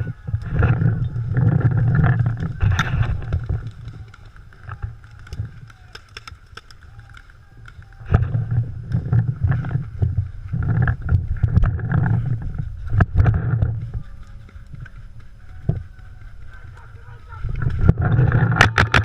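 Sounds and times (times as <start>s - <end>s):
microphone handling noise: 0.0s - 5.7s, 8.0s - 19.0s
wind rumbling on microphone: 0.0s - 19.0s.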